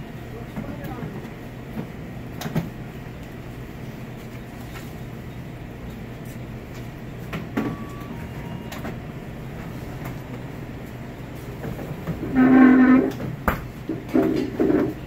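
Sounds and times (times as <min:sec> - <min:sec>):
ventilation and refrigeration hum: 0:00.0 - 0:15.0.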